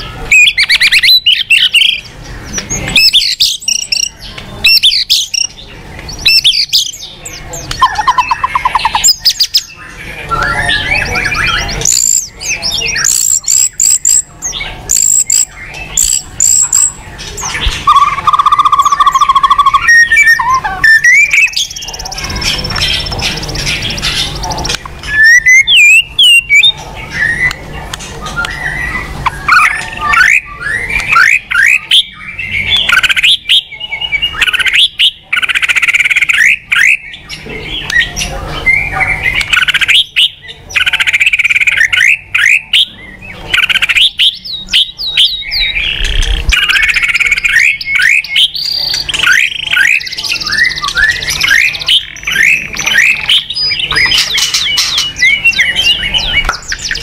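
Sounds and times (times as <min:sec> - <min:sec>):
bird singing whistled phrases: 0:00.0 - 0:02.1, 0:02.8 - 0:27.6, 0:28.2 - 0:57.0.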